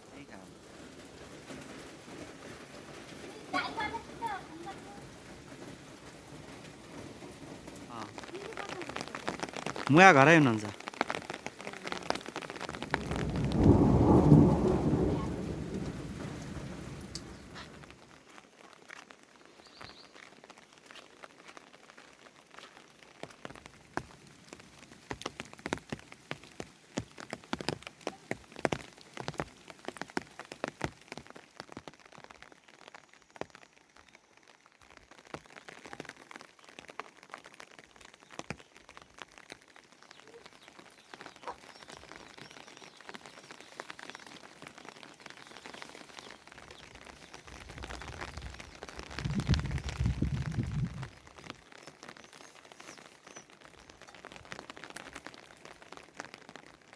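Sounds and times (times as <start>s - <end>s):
faint hiss of rain: 0.0s - 56.9s
raindrops tapping on hard surface: 0.0s - 56.9s.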